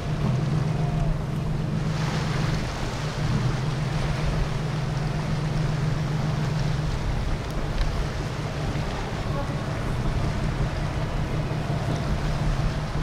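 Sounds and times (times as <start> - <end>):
motorboat engine droning: 0.0 - 13.0
water rushing: 0.0 - 13.0
wind: 0.0 - 13.0.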